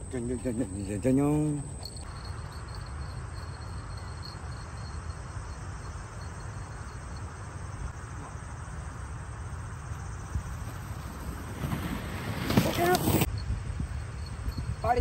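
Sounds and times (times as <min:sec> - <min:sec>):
insect chirping trill: 0:00.0 - 0:15.0.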